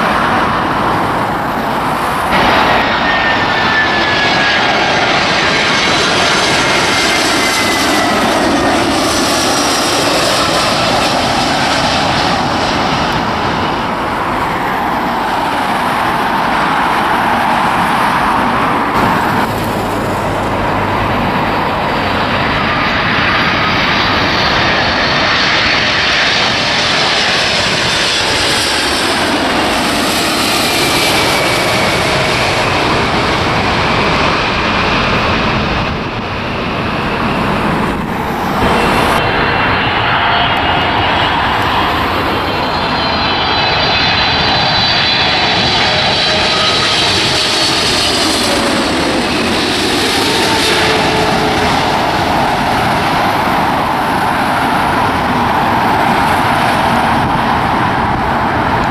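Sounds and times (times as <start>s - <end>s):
jet airliner landing: 0.0s - 58.9s
jet engine whine passing: 0.0s - 58.9s.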